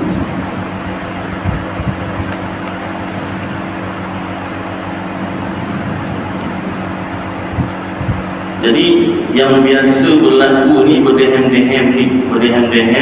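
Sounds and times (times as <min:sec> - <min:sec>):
low hum: 0:00.0 - 0:13.0
steady rushing noise: 0:00.0 - 0:13.0.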